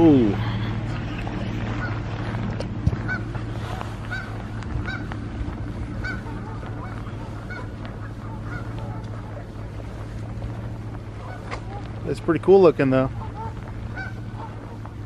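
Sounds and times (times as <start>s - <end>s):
geese honking: 0.0s - 15.0s
steady low hum: 0.0s - 15.0s.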